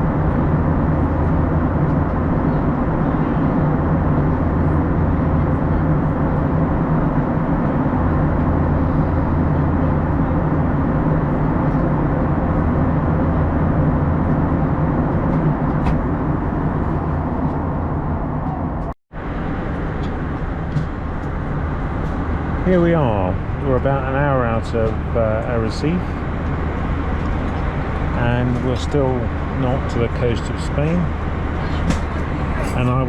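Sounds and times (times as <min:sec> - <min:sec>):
airflow rushing in cabin: 0:00.0 - 0:33.0
low engine hum: 0:00.0 - 0:33.0.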